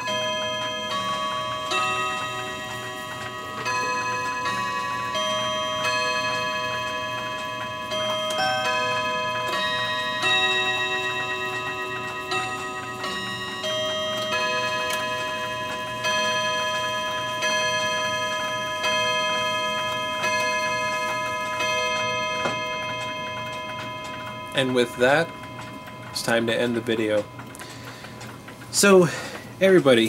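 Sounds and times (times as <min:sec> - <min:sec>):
clock chiming: 0:00.0 - 0:30.0
clock striking the hour: 0:00.0 - 0:30.0
clock ticking: 0:00.0 - 0:30.0.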